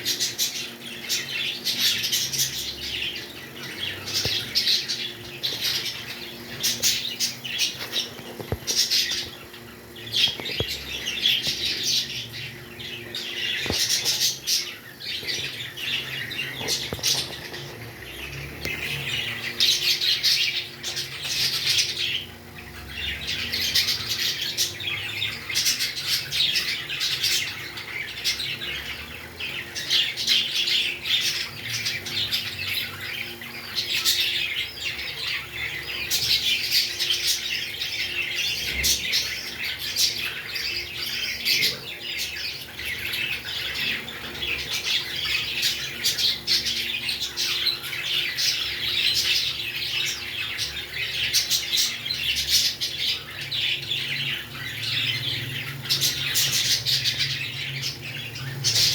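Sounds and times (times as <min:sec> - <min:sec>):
parrots chirping and squawking: 0:00.0 - 0:58.9.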